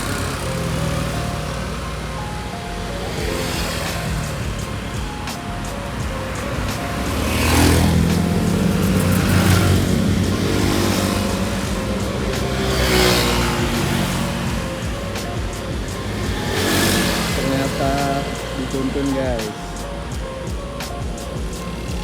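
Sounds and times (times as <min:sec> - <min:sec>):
background music: 0:00.0 - 0:22.0
vehicles passing on road: 0:00.0 - 0:22.0.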